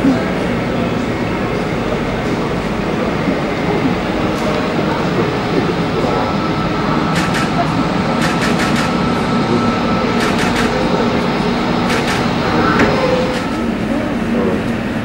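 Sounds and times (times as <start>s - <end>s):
jet engines running: 0.0s - 15.0s
thin engine whine: 0.0s - 15.0s.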